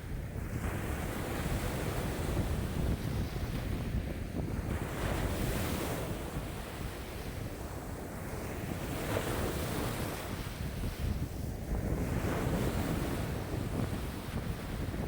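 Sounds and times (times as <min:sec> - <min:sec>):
wind buffeting microphone: 0:00.0 - 0:15.0
lake waves washing: 0:00.2 - 0:15.0.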